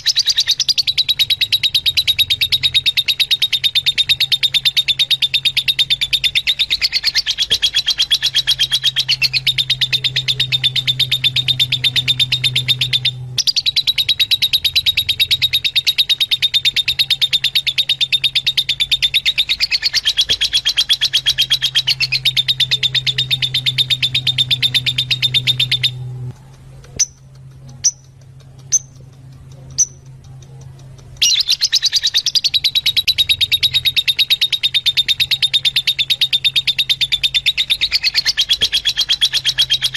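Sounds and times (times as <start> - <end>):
sharp bird calls: 0.0 - 30.2, 31.1 - 39.9
lovebirds chattering: 0.0 - 39.9.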